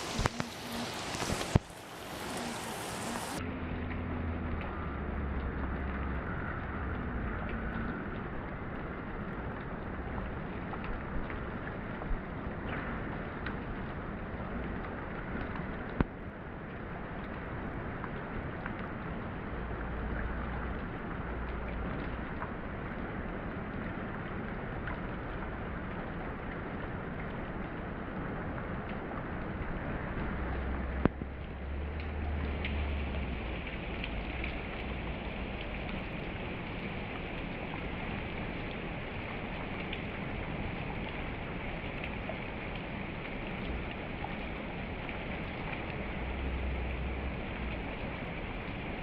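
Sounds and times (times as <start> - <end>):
rain falling: 0.0 - 49.0.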